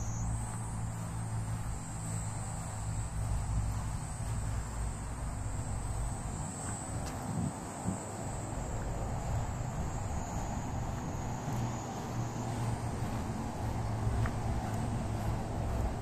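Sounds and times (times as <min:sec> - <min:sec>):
low uneven rumble: 0:00.0 - 0:16.0.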